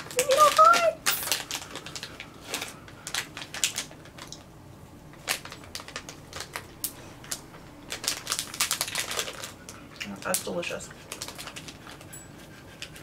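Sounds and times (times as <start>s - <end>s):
plastic bag crinkling: 0.0s - 4.5s, 5.1s - 12.2s.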